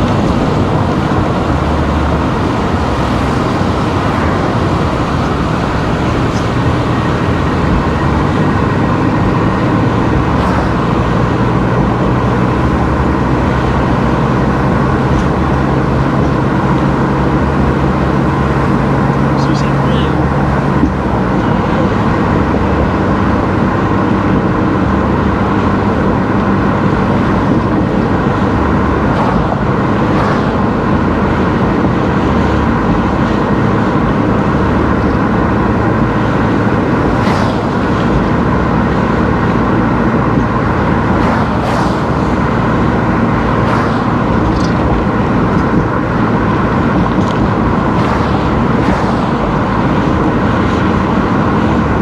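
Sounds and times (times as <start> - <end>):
car engine and tyre noise: 0.0 - 52.0.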